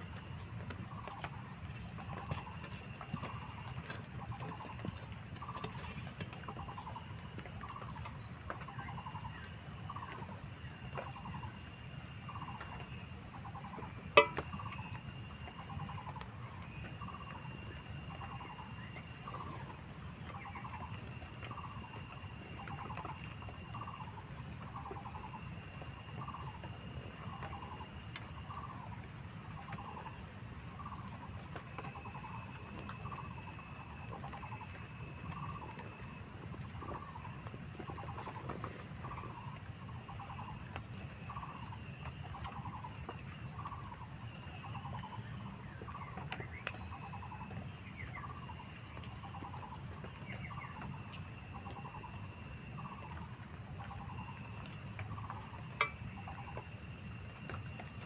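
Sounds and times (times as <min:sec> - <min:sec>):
insect chorus drone: 0:00.0 - 0:58.0.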